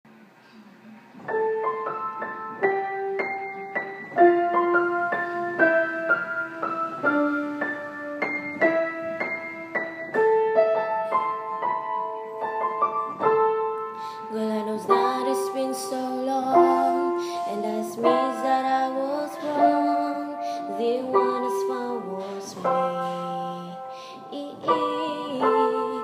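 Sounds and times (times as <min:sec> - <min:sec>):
slow solo piano melody: 0:01.2 - 0:26.0.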